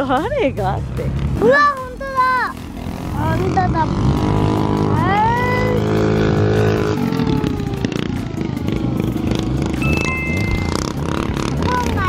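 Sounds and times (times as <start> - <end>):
kart engine revving: 1.1 - 12.0.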